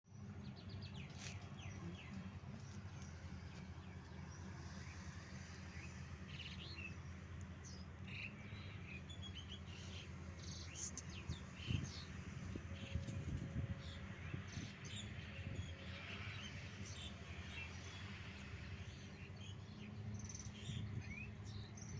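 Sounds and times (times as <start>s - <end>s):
small birds chirping: 0.1s - 21.9s.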